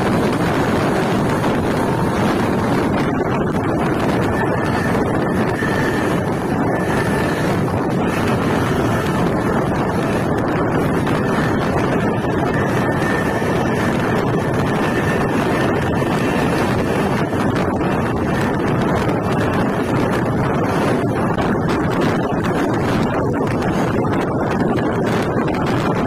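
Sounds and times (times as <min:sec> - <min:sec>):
train wheels rumbling on rails: 0:00.0 - 0:26.0
wind rushing on microphone: 0:00.0 - 0:26.0.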